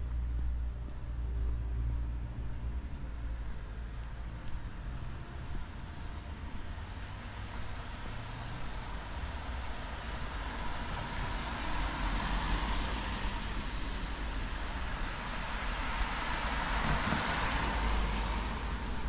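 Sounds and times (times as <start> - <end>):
cars passing on wet road: 0.0 - 19.0.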